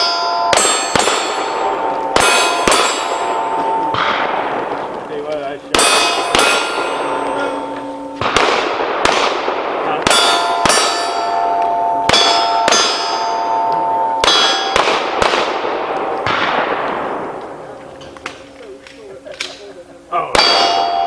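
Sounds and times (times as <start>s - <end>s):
steel target ringing: 0.0s - 18.6s, 20.4s - 21.0s
pistol shots: 0.5s - 19.6s.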